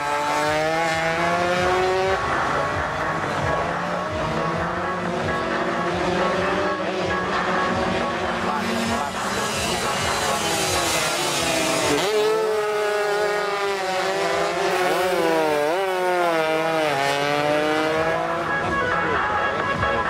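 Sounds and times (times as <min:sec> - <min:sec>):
motorcycle engines revving hard: 0:00.0 - 0:20.0.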